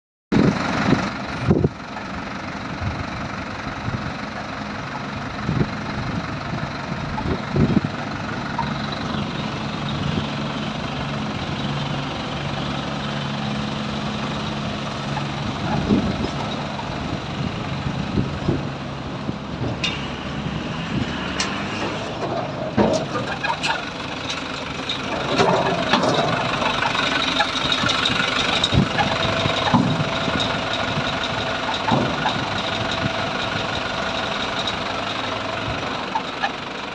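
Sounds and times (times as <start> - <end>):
diesel truck engine idling: 0.4 - 36.9.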